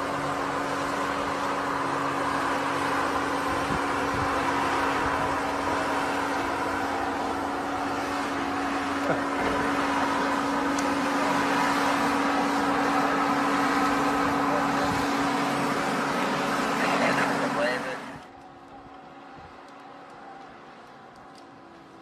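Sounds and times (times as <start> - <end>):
tracked machine engine running: 0.0 - 22.0.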